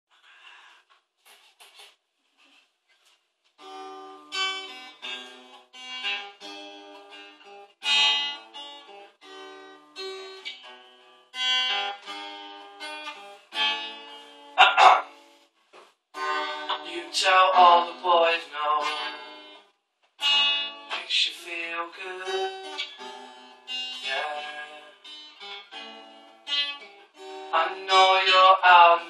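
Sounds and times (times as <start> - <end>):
acoustic guitar strumming: 3.6 - 15.4, 16.2 - 19.6, 20.2 - 29.0.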